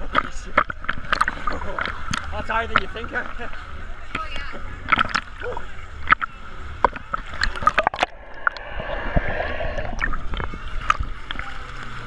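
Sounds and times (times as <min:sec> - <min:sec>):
sea water sloshing and splashing: 0:00.0 - 0:12.0
water gurgling: 0:00.0 - 0:12.0
waves washing over camera: 0:00.0 - 0:12.0.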